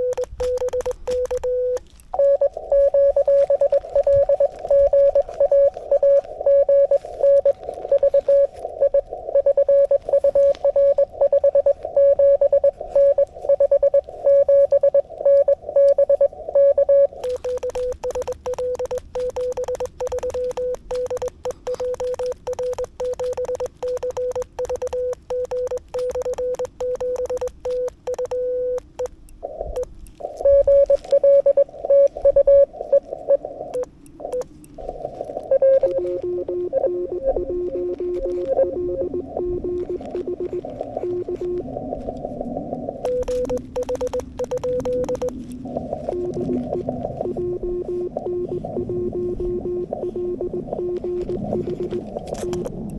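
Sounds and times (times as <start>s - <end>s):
lower-pitched morse signal: 0.0s - 28.8s, 29.4s - 52.7s
morse code tones: 0.0s - 52.7s.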